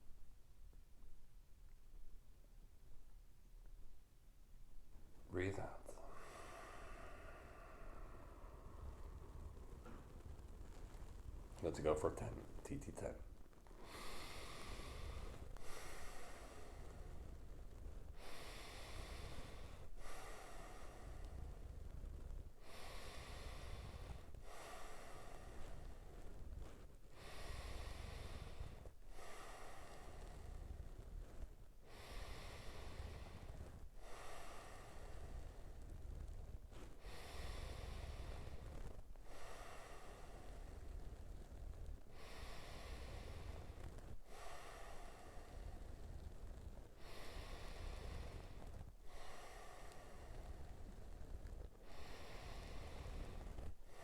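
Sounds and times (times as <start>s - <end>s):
person breathing through nose: 5.8s - 10.9s, 13.8s - 54.0s.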